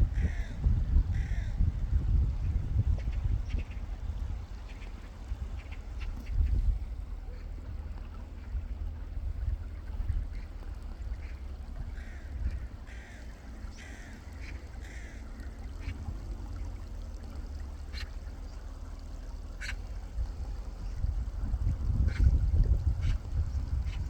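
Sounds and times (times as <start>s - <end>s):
birds calling: 0.0s - 20.2s.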